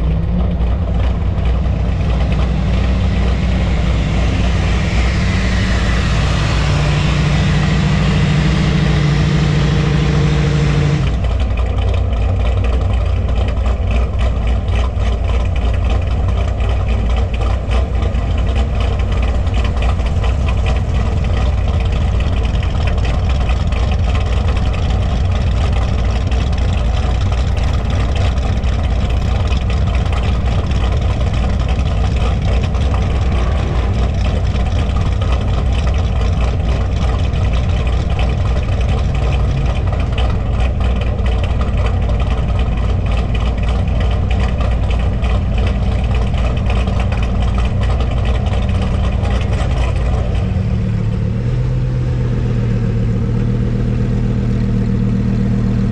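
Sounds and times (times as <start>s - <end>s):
car engine idling loudly: 0.0s - 55.9s.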